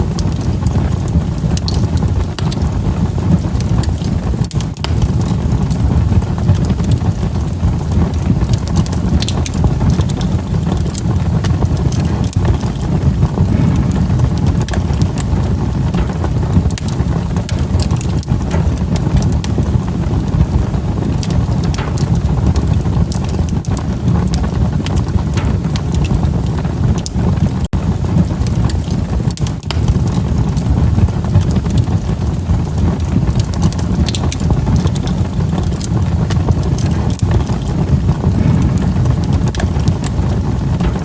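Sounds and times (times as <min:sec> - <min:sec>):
wood fire crackling and popping: 0:00.0 - 0:41.0
fire flames rushing: 0:00.4 - 0:41.0.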